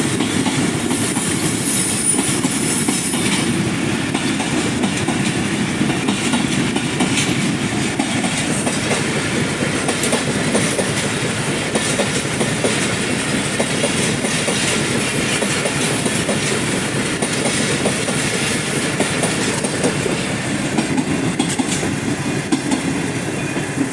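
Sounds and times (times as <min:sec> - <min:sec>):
train wheels clattering over rail joints: 0:00.0 - 0:23.9.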